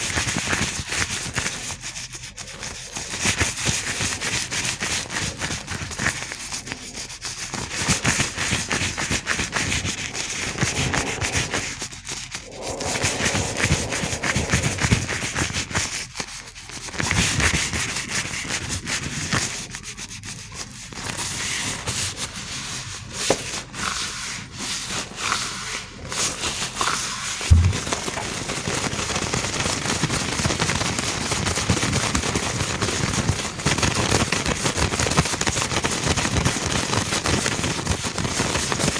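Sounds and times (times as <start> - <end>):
gloved hands rubbing and crinkling: 0.0 - 38.9.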